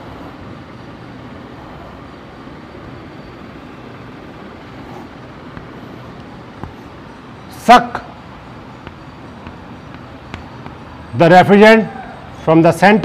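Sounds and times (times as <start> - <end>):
room noise rush: 0.0 - 12.4.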